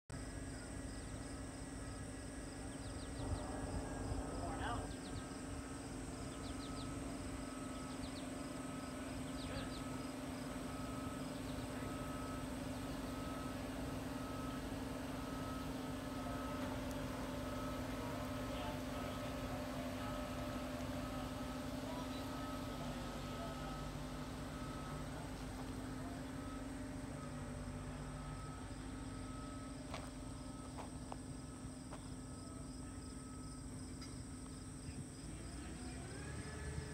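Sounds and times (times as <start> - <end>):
low machinery hum: 0.1 - 36.9
faint insect chirps: 0.2 - 36.9.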